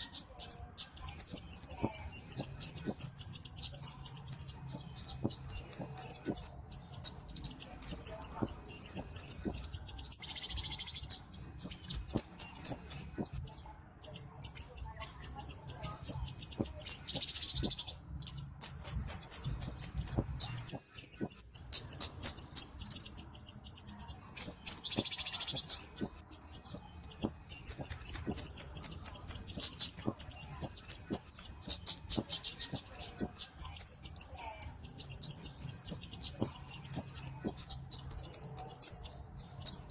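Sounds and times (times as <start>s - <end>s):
bird calling with ticking chips: 0.0s - 39.9s.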